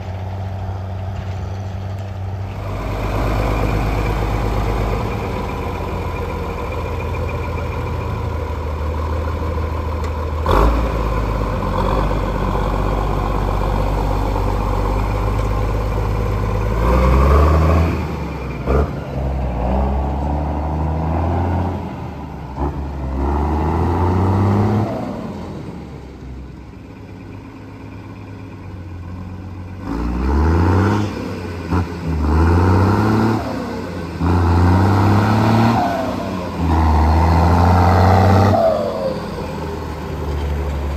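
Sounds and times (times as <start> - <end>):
vehicle engine accelerating: 0.0 - 26.2, 29.8 - 40.9.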